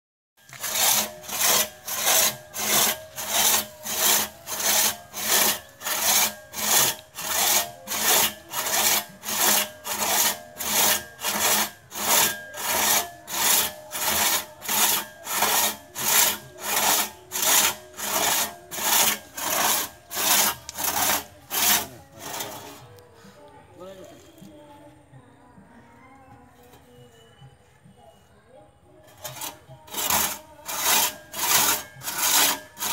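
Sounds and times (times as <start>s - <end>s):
crosscut saw rasping through wood: 0.4s - 23.0s, 29.1s - 32.9s.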